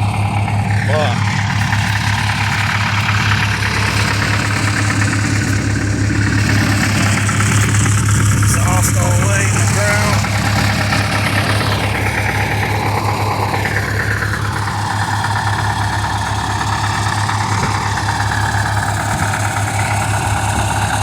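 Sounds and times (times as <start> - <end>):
engine whine: 0.0 - 21.0
vehicle engine idling: 0.0 - 21.0.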